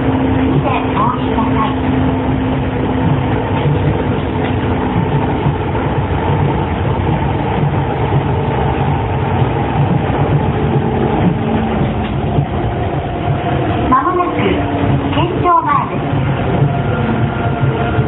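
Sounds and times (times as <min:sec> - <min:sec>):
steady tones: 0:00.0 - 0:18.0
traction motor hum: 0:00.0 - 0:18.0
train rumbling: 0:00.0 - 0:18.0.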